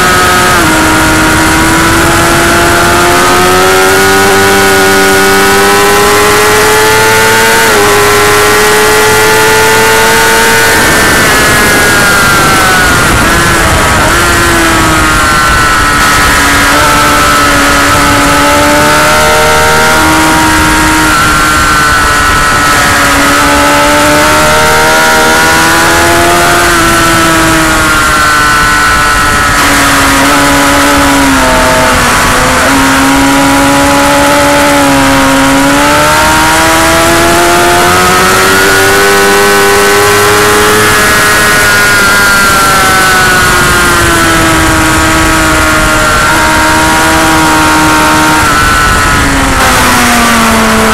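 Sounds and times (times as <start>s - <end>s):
motorcycle engine running hard: 0.0s - 50.9s
wind noise rushing: 0.0s - 50.9s.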